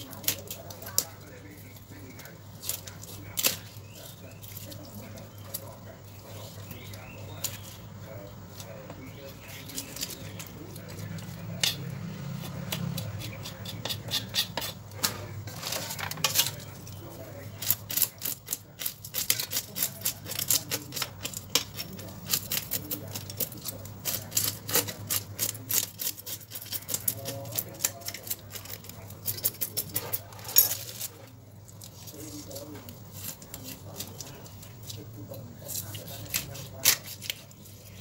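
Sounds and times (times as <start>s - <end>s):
knife scraping fish scales: 0.0s - 7.8s, 8.5s - 38.0s.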